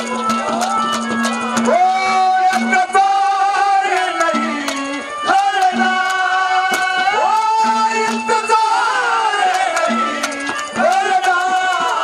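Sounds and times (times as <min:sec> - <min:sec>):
hand-drum strokes: 0:00.0 - 0:12.0
sliding melody notes: 0:00.0 - 0:12.0
person singing: 0:01.6 - 0:12.0.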